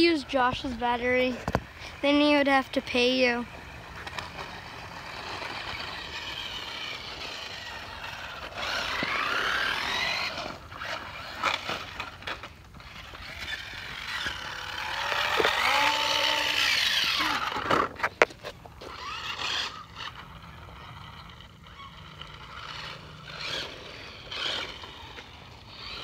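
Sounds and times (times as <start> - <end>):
toy car electric motor whining: 0.0 - 26.0.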